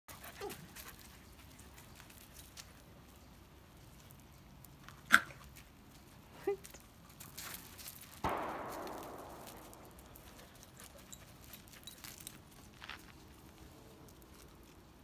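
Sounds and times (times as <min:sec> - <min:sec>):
paws scuffling on gravel: 0:00.1 - 0:15.0.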